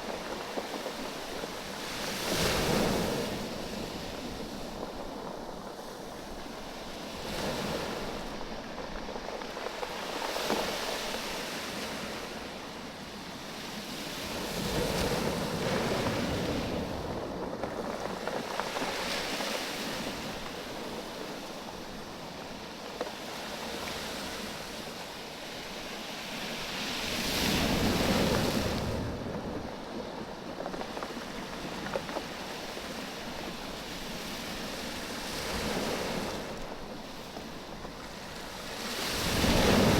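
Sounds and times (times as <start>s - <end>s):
waves washing over stones: 0.0s - 39.9s.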